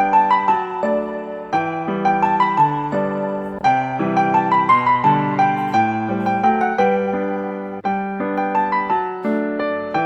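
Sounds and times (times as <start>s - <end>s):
gentle piano tune: 0.0s - 10.0s.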